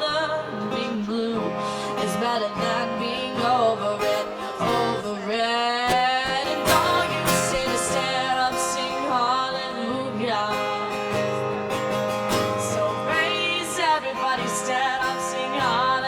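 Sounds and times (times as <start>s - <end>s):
woman singing wordless notes: 0.0s - 11.7s, 12.3s - 16.0s
acoustic guitar: 0.0s - 16.0s.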